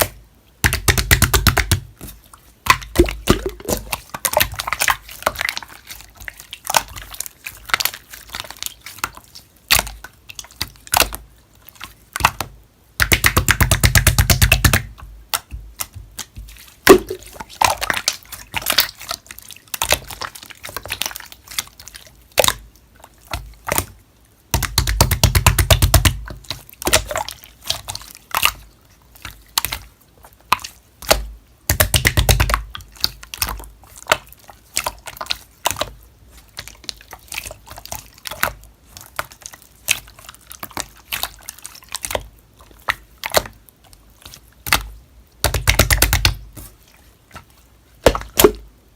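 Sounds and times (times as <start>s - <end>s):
slime squished by hand: 0.0s - 48.7s.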